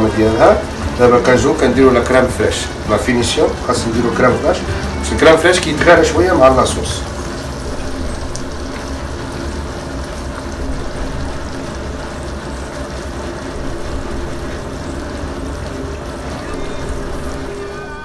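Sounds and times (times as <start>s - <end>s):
gas hob low rumble: 0.0s - 17.7s
sauce bubbling in pot: 0.0s - 17.7s.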